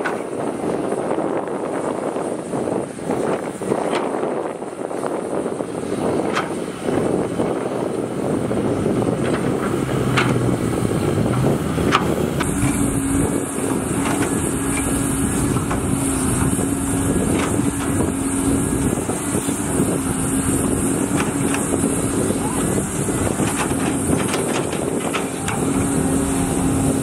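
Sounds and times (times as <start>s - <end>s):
dump truck diesel engine droning: 0.0s - 27.0s
excavator diesel engine: 0.0s - 27.0s.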